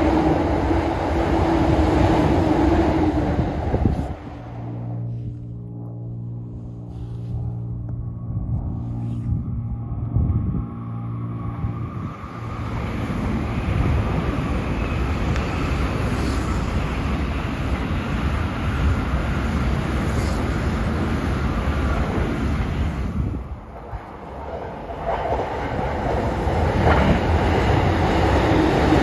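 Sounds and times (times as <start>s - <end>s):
high-speed train passing: 0.0s - 29.0s.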